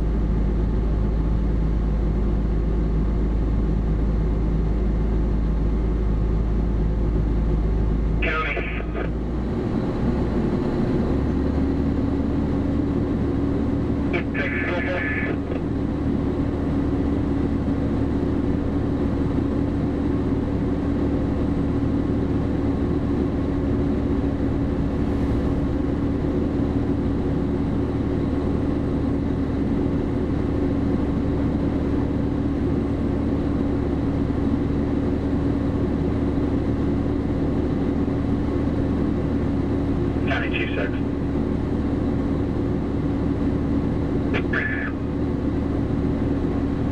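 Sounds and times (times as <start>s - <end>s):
diesel engine drone: 0.0s - 46.9s.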